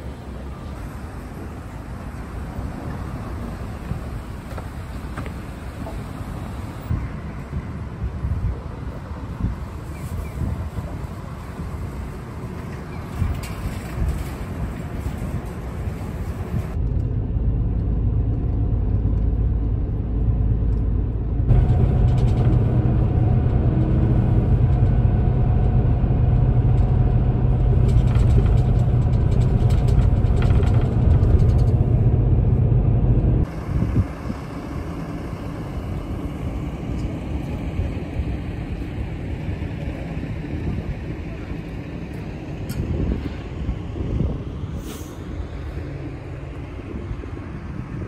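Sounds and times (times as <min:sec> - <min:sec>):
coach engine and road rumble: 0:00.0 - 0:48.0
vehicle noise outdoors: 0:00.0 - 0:48.0.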